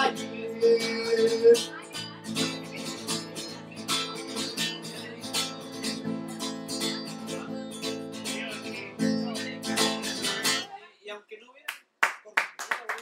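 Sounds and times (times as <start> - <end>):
acoustic guitar strumming: 0.0 - 10.7.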